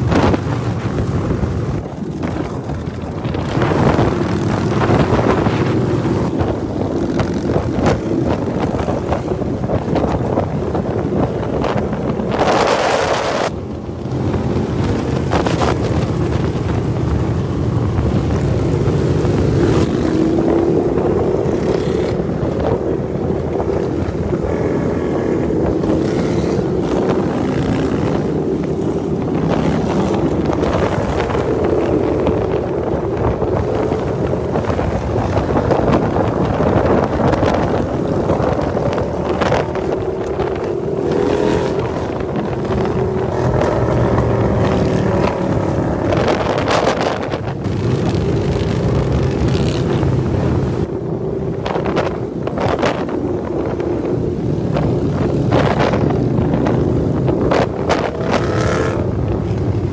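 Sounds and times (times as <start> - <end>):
motorcycle engines cruising: 0.0 - 59.9
wind noise on microphone: 0.0 - 59.9.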